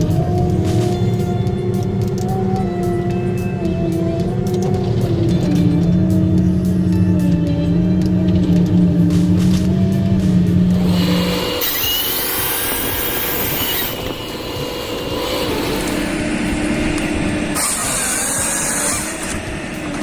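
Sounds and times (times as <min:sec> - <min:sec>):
heavy machinery engines running: 0:00.0 - 0:20.0.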